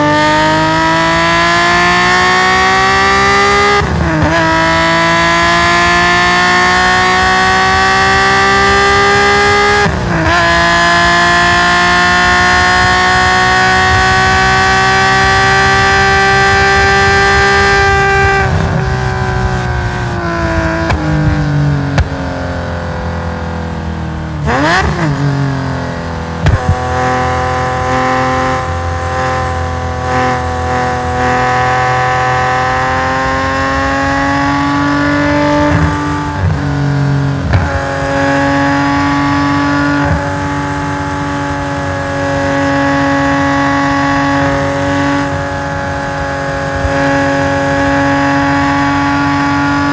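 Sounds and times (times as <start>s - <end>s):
race car engine: 0.0s - 49.9s.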